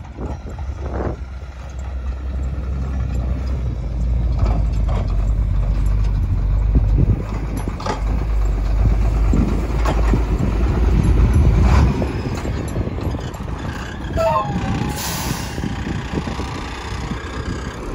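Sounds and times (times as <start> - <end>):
diesel truck engine rumbling: 0.0 - 17.9.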